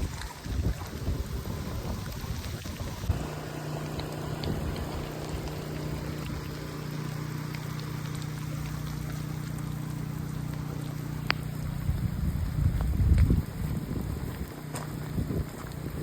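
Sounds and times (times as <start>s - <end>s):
steady low hum: 0.0s - 16.0s
storm rain falling: 0.7s - 16.0s.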